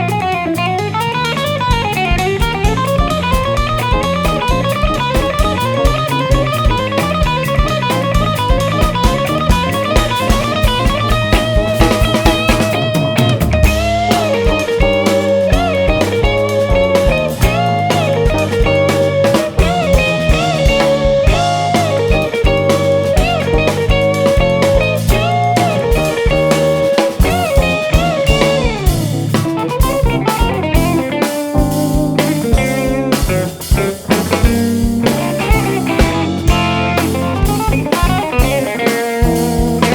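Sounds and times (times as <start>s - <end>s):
drum kit: 0.0s - 39.9s
electric guitar: 0.0s - 39.9s
jazz fusion band playing: 0.0s - 39.9s.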